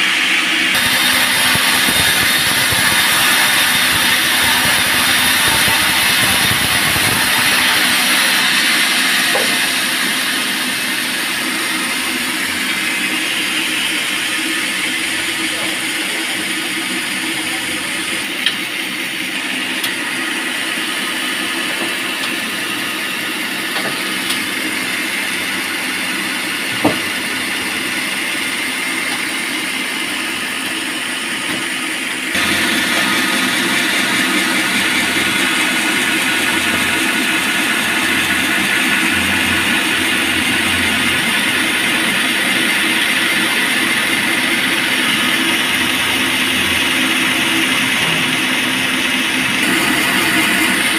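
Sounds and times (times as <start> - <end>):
band sawmill engine running: 0.0 - 50.9.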